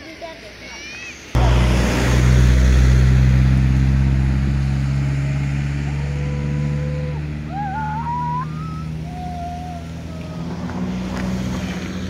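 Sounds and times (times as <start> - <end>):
car engine running: 1.4 - 12.0.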